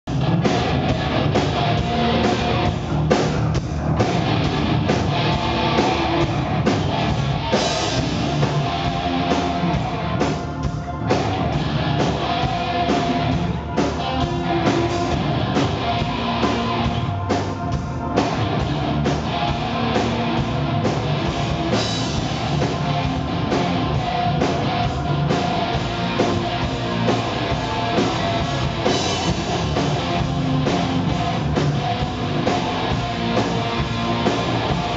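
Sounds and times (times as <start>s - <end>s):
bass guitar: 0.0s - 34.9s
drum kit: 0.1s - 34.9s
electric guitar: 0.1s - 34.9s.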